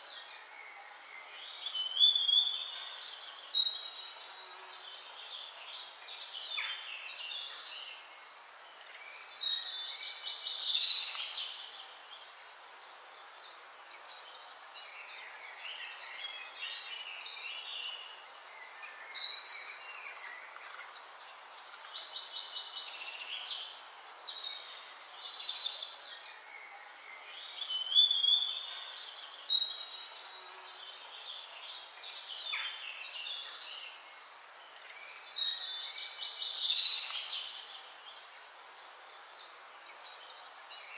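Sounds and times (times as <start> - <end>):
birds singing and chirping: 0.0 - 40.9
steady background hiss: 0.0 - 40.9.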